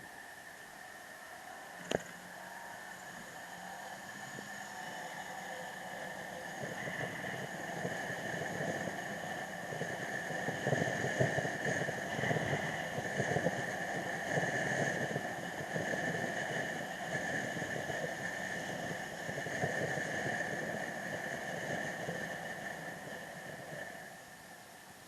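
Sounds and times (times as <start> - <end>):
high-pitched whine: 0.0 - 25.0
wind noise: 4.0 - 24.1.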